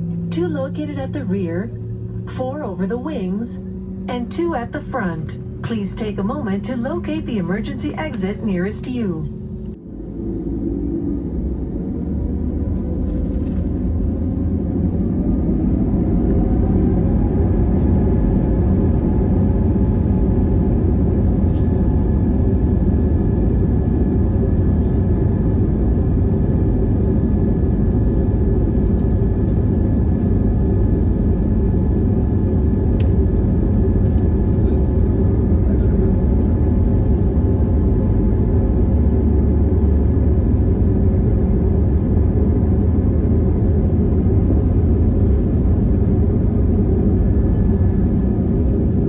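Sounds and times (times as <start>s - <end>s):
aircraft rolling rumble: 0.0s - 49.0s
engine whine: 0.0s - 49.0s.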